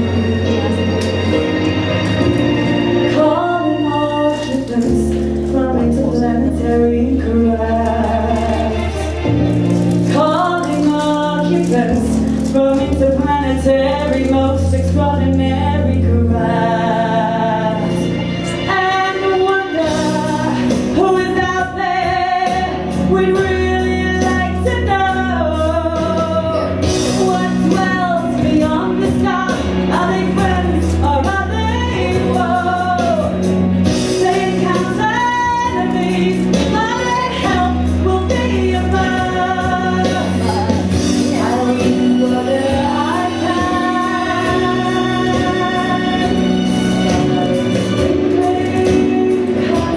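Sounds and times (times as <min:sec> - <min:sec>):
musical accompaniment with bass: 0:00.0 - 0:49.9.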